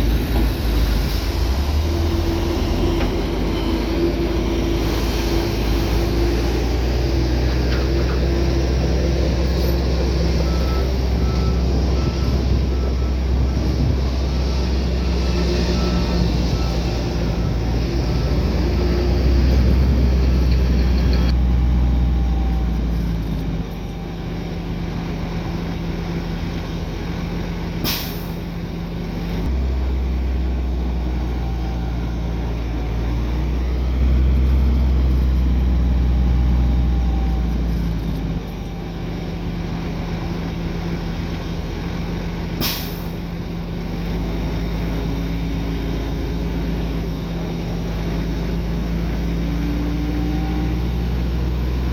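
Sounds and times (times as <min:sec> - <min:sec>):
heavy diesel machinery engines: 0:00.0 - 0:51.9.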